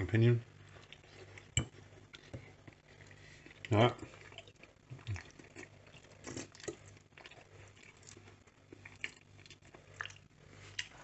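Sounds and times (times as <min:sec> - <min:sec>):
low steady hum: 0:00.0 - 0:11.0
person chewing food: 0:00.6 - 0:11.0.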